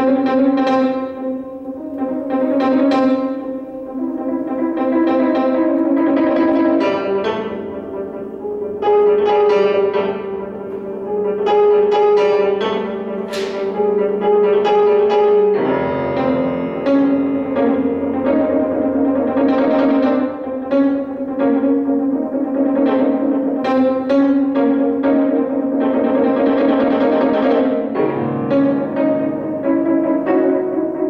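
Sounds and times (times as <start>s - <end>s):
solo grand piano chords: 0.0s - 31.0s.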